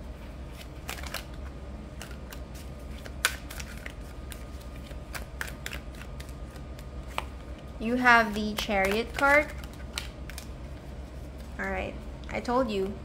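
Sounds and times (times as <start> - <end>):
cards being shuffled by hand: 0.2 - 11.9.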